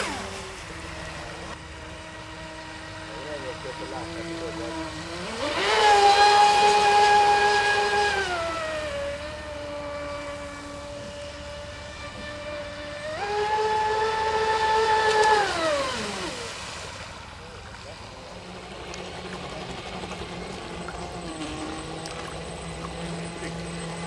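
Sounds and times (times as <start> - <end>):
model speedboat motor whining: 0.0 - 24.0.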